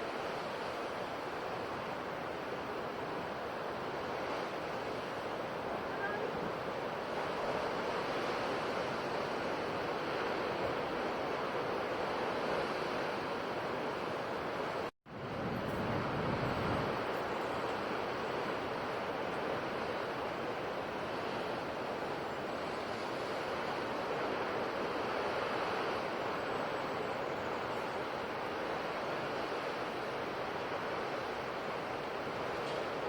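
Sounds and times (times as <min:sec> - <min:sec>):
sea waves washing on shore: 0:00.0 - 0:33.0.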